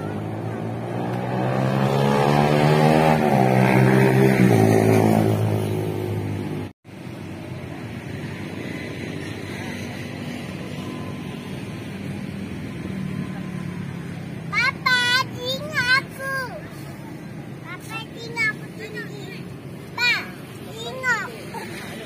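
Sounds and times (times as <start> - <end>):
faint steady traffic noise: 0.0 - 22.0.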